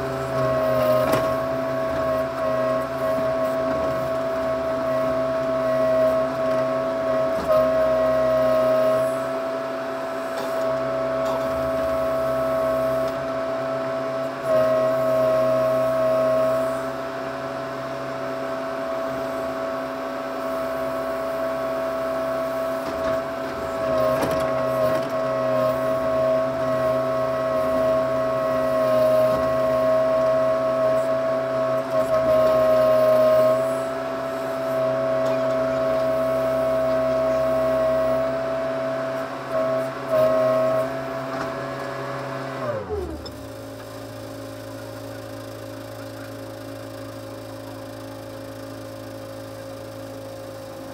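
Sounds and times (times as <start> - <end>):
backhoe engine running: 0.0 - 50.9.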